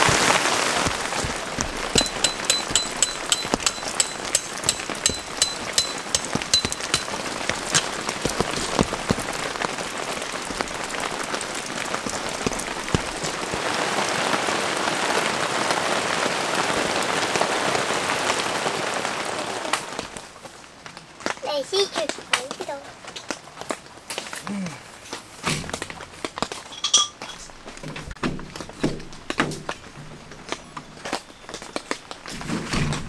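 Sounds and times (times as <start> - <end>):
steady rain falling: 0.0 - 26.8, 27.4 - 33.0.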